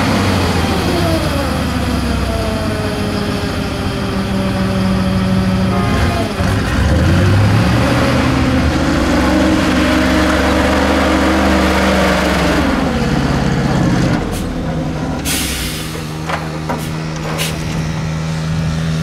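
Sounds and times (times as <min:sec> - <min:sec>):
truck engine under load: 0:00.0 - 0:19.0.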